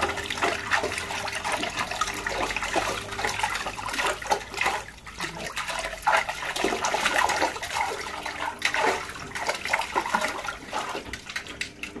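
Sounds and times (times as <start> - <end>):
dog splashing in water: 0.0 - 12.0.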